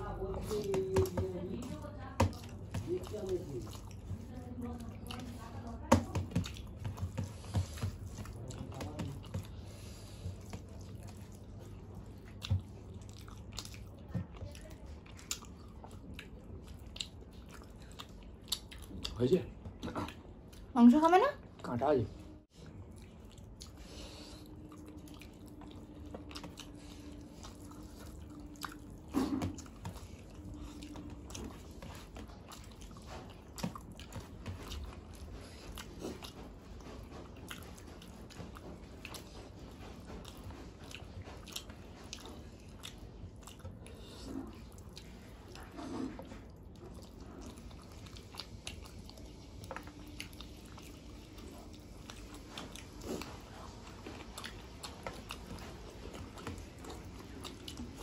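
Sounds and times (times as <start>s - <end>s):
chewing and mouth sounds: 0.0s - 20.7s, 22.5s - 58.0s.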